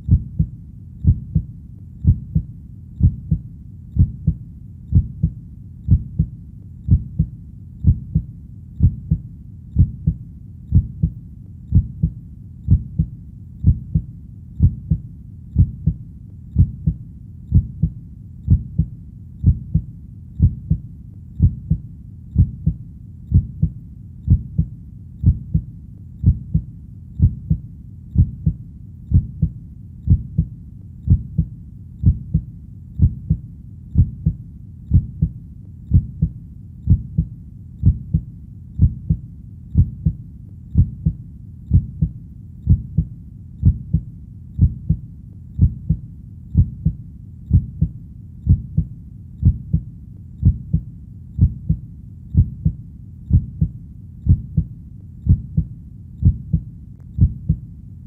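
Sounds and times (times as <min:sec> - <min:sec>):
heartbeat thumps: 0:00.0 - 0:45.0, 0:45.6 - 0:57.7.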